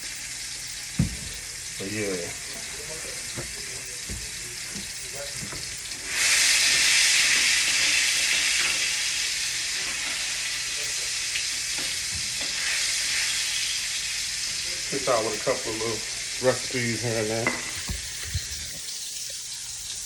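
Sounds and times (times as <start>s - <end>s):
food sizzling in a hot pan: 0.0s - 20.0s.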